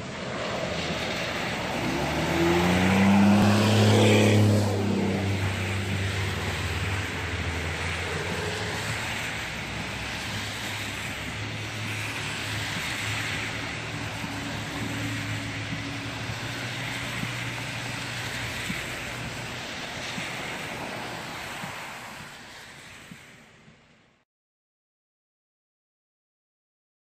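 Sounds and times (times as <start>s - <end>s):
tyres splashing through water: 0.0s - 22.9s
passing traffic engines: 0.0s - 24.2s.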